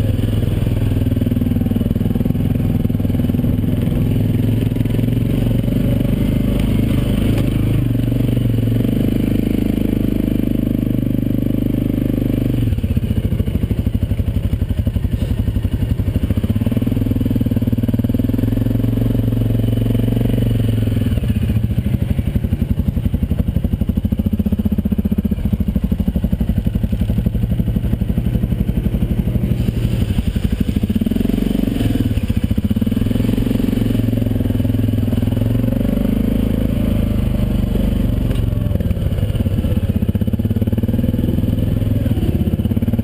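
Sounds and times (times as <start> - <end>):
quad bike engine running: 0.0 - 43.0.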